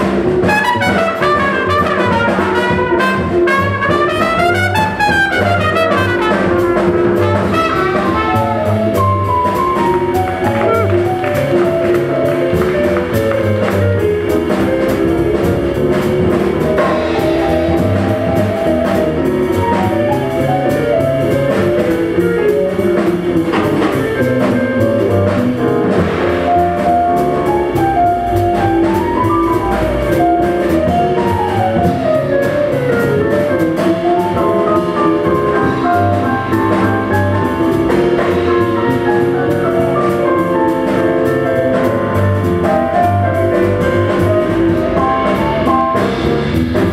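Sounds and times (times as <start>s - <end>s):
drum kit: 0.0s - 46.9s
piano soloing: 0.0s - 46.9s
plucked upright bass: 0.0s - 46.9s.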